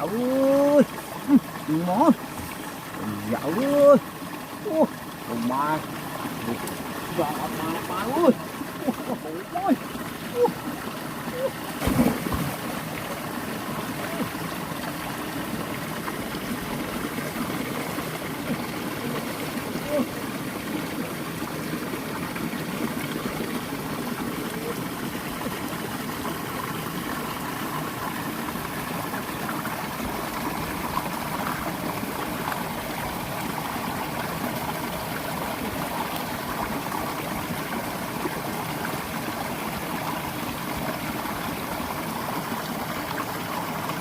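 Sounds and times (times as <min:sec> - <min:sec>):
running water: 0:00.0 - 0:44.0.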